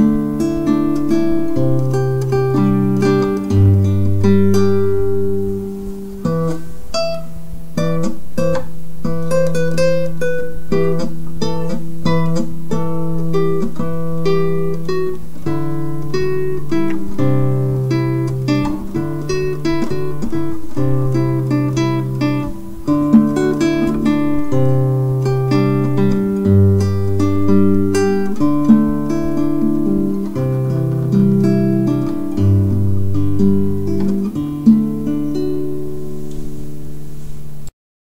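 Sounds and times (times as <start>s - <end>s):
acoustic guitar picking melody: 0.0s - 37.7s.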